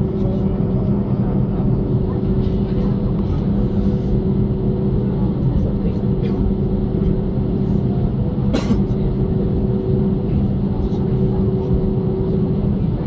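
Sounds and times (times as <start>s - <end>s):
jet engines low rumble: 0.0s - 13.0s
steady cabin hum: 0.0s - 13.0s.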